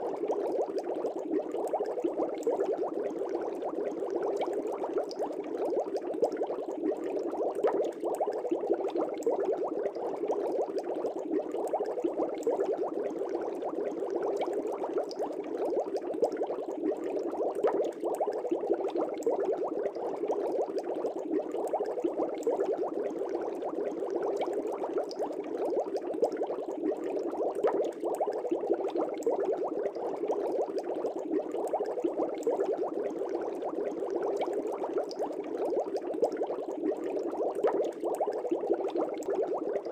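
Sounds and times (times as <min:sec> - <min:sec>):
aquarium air bubbles bubbling: 0:00.0 - 0:39.9.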